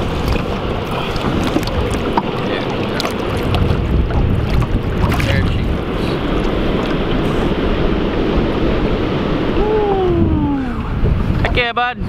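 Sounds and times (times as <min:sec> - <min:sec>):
water splashing against a boat: 0:00.0 - 0:11.8
wind buffeting the microphone: 0:00.0 - 0:12.0.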